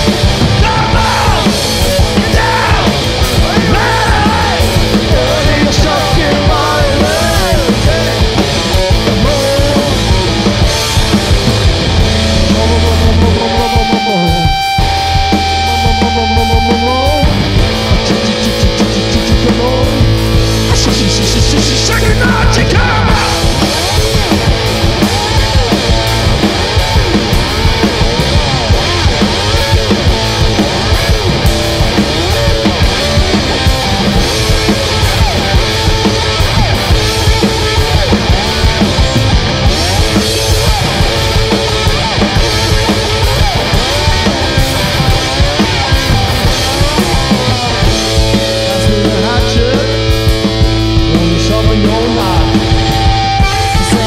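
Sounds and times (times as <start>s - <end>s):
electric guitar: 0.0s - 54.0s
fast drum beat: 0.0s - 54.0s.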